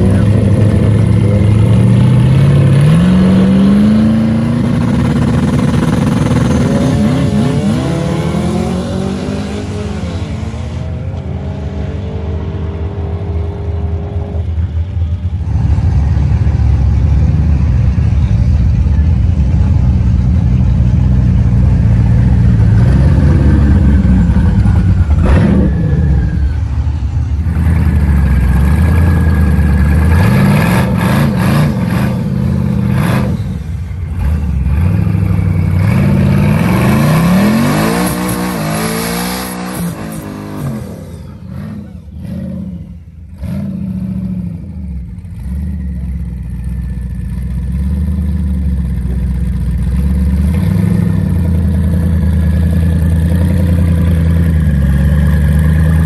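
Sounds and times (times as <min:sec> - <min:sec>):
car engine accelerating: 0:00.0 - 0:56.0
engine running steadily: 0:00.0 - 0:56.0.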